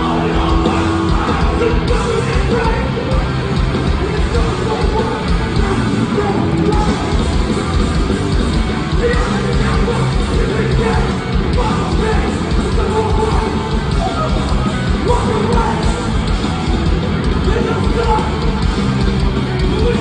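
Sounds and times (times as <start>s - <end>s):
distorted electric guitars: 0.0s - 20.0s
drums: 0.0s - 20.0s.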